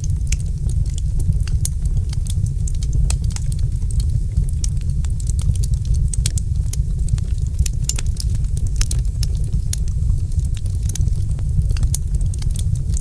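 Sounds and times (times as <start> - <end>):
low rumble: 0.0 - 13.0
wood fire crackling: 0.0 - 13.0.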